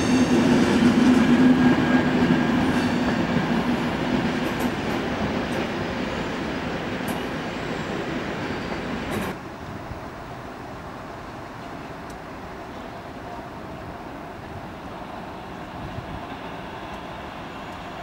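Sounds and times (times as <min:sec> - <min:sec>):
train rolling out: 0:00.0 - 0:18.0.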